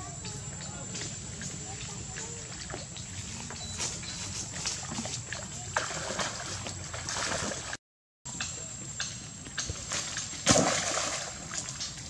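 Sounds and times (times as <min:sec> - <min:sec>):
water splashing and sloshing: 0:00.3 - 0:07.8, 0:09.6 - 0:12.0.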